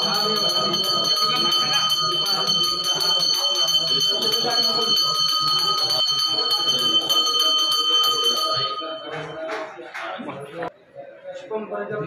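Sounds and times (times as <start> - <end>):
temple bell rung rapidly: 0.0 - 9.8.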